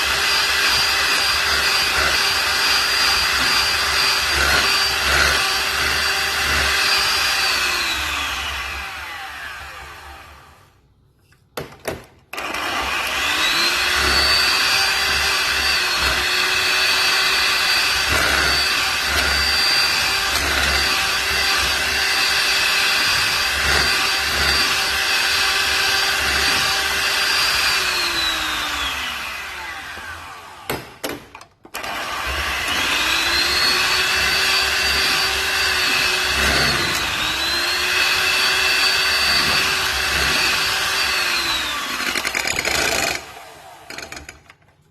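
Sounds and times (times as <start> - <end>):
electric mixer whining: 0.0 - 10.6, 12.4 - 30.7, 31.8 - 44.1.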